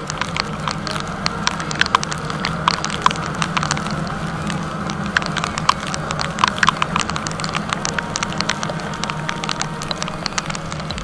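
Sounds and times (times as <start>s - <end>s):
motorcycle engine cruising: 0.0s - 11.0s
rain drops tapping on camera: 0.0s - 11.0s.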